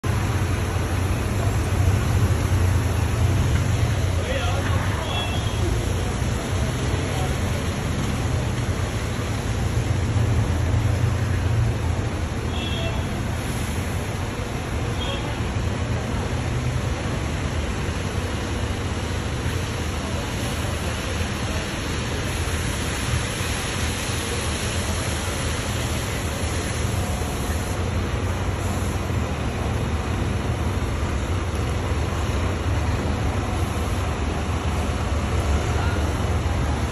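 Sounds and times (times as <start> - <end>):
bus engines rumbling: 0.0 - 36.9
steady hiss: 0.1 - 36.9.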